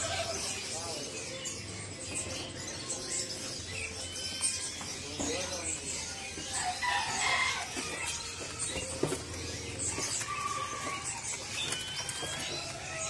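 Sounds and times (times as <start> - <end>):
songbirds whistling and chirping: 0.0 - 13.0.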